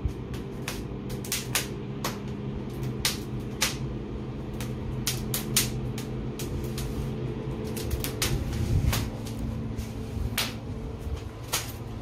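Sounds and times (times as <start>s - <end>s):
chimney fan motor humming: 0.0s - 12.0s
wood fire crackling: 0.0s - 12.0s.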